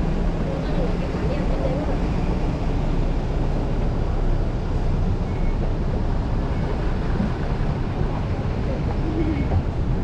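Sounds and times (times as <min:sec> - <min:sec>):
city street rumble: 0:00.0 - 0:10.0.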